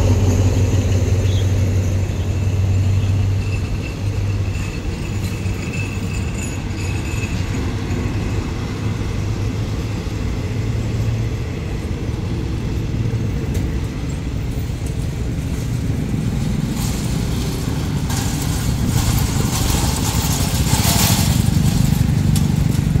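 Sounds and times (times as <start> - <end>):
motorcycle and car engines: 0.0 - 23.0
train carriages rumbling on rails: 0.0 - 23.0.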